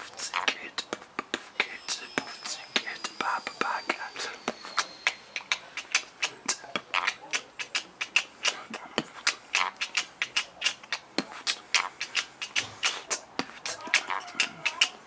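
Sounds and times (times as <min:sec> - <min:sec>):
person beatboxing: 0:00.0 - 0:15.0.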